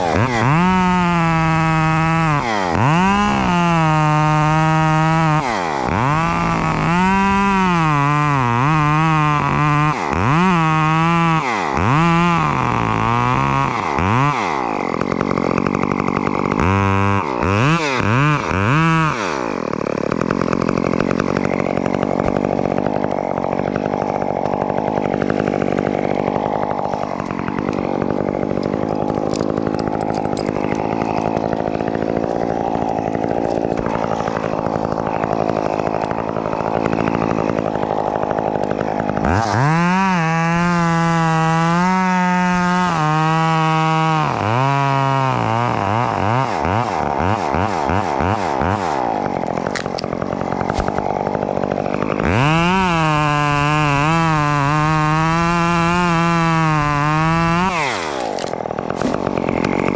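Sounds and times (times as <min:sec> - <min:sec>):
chainsaw revving and cutting wood: 0:00.0 - 0:59.9.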